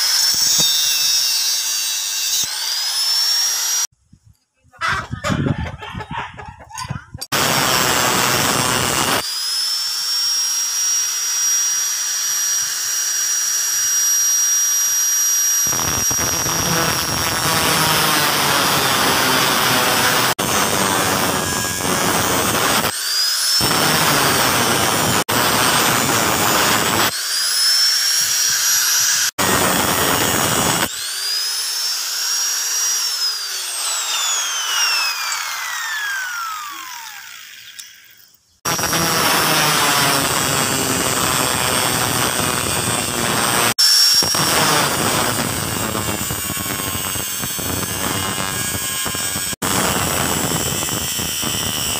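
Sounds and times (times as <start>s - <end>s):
angle grinder whining: 0.0s - 3.9s, 7.2s - 51.9s
grinder cutting steel: 0.0s - 3.9s, 7.2s - 51.9s.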